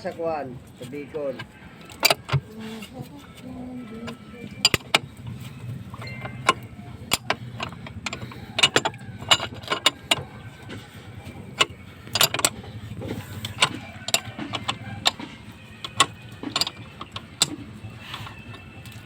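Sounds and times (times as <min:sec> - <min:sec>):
hand tools clicking and knocking: 0:00.0 - 0:19.0
low steady hum: 0:00.0 - 0:19.0.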